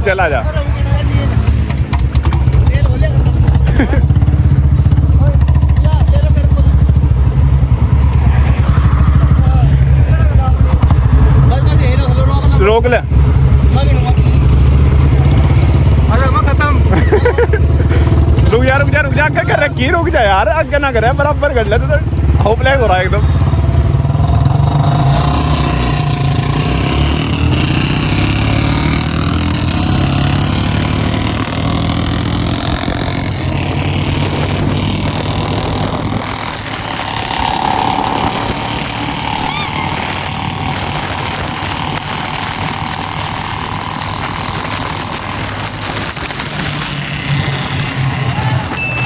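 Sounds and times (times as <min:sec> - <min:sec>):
motorcycle engines accelerating: 0:00.0 - 0:49.0.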